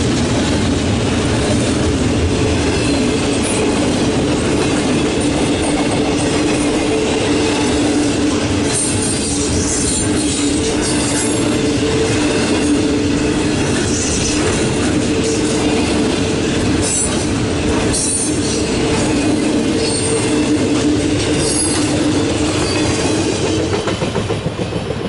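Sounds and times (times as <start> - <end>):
freight train rolling past: 0.0 - 25.0.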